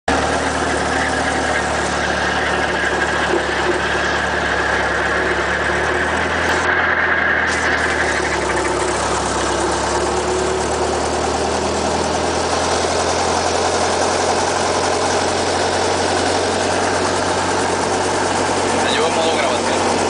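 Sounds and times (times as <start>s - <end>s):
helicopter engine drone: 0.1s - 20.0s.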